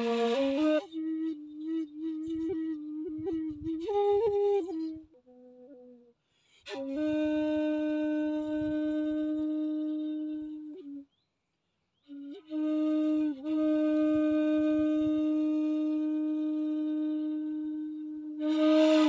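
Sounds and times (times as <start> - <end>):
bamboo flute solo: 0.0 - 11.2, 12.0 - 19.0.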